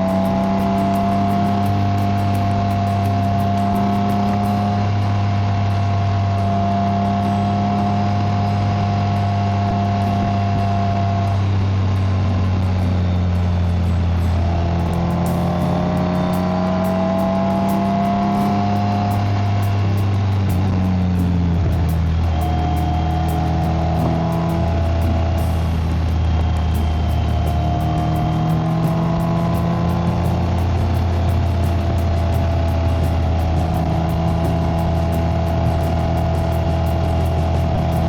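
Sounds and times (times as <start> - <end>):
motorcycle engine cruising: 0.0 - 38.0.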